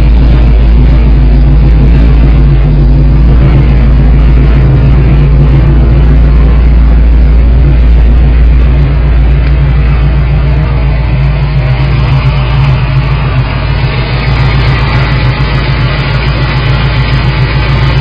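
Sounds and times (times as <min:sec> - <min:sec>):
loud engine idling: 0:00.0 - 0:18.0.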